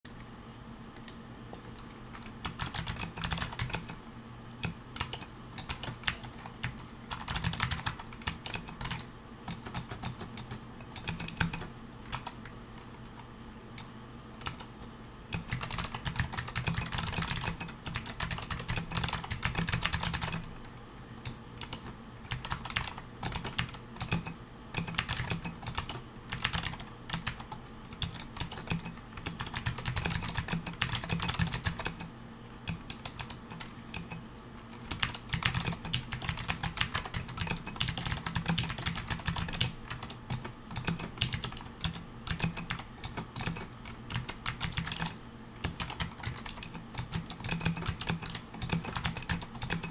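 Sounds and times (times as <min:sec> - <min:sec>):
mechanical keyboard typing clicks: 0:01.0 - 0:04.0, 0:04.6 - 0:13.2, 0:13.8 - 0:20.5, 0:21.2 - 0:32.1, 0:32.7 - 0:49.9.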